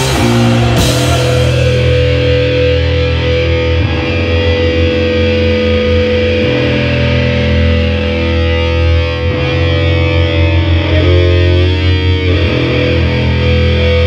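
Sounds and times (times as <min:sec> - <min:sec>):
metal band distorted guitars: 0:00.0 - 0:14.0.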